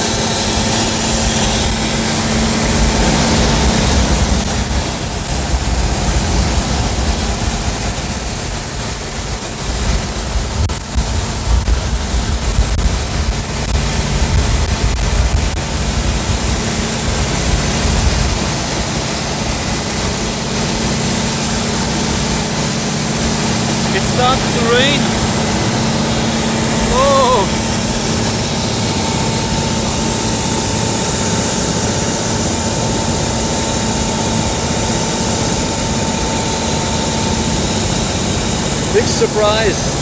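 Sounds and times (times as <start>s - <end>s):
boat diesel engine rumble: 0.0s - 40.0s.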